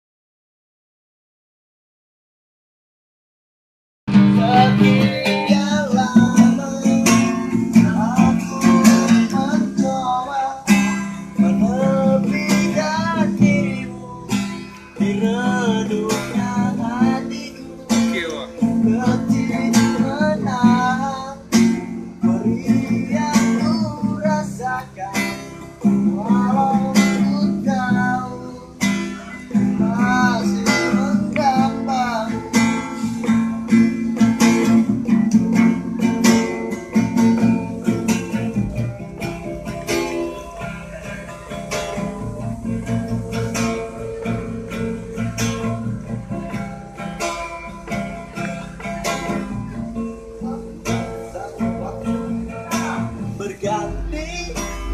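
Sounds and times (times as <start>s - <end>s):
classical guitar strumming: 4.1s - 54.9s.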